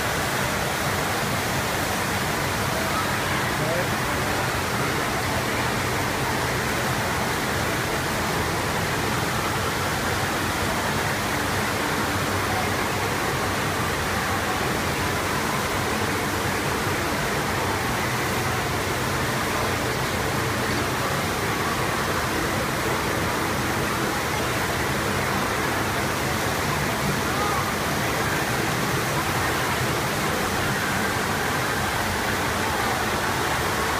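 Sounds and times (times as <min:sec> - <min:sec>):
rushing water sheet: 0:00.0 - 0:33.9.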